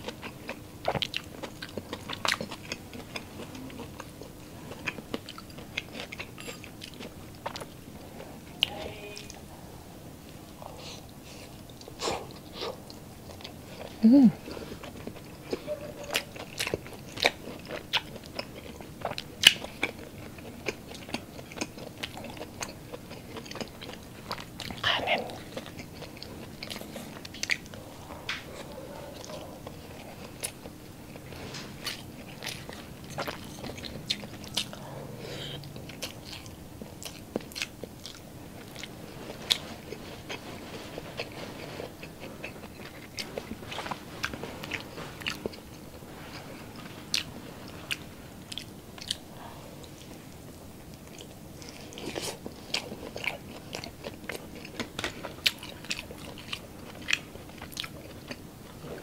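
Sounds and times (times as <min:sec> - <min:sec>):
faint steady hum: 0:00.0 - 0:59.0
person chewing food: 0:00.0 - 0:59.0.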